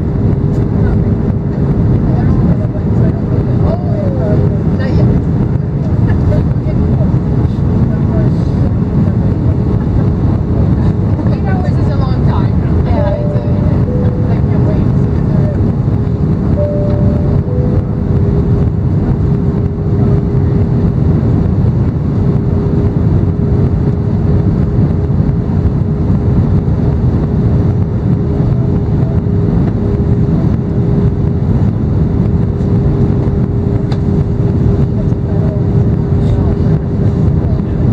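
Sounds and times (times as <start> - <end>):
airliner cabin engine rush: 0.0 - 37.9
even hum: 0.0 - 37.9.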